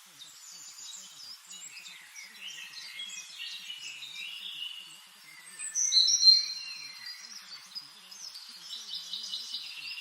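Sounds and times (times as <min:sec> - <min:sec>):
songbirds chirping and singing: 0:00.0 - 0:10.0.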